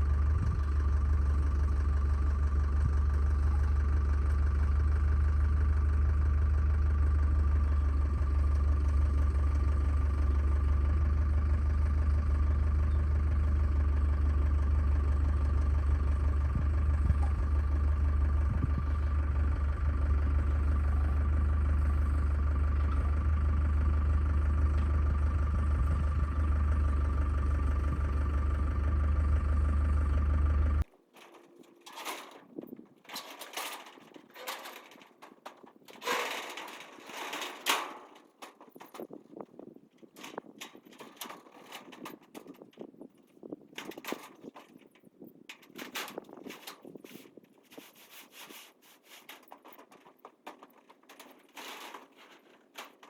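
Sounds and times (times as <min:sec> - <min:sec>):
engine idling: 0:00.0 - 0:42.8, 0:49.2 - 0:53.0.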